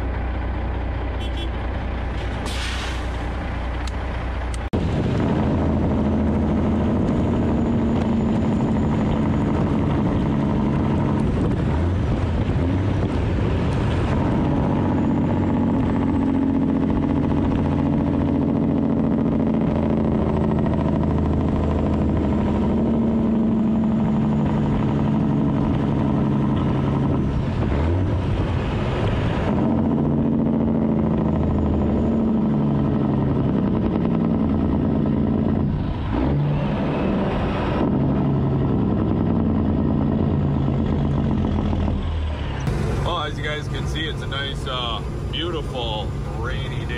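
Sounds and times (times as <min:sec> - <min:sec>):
truck diesel engine and exhaust: 0:00.0 - 0:46.9
wind: 0:00.0 - 0:46.9.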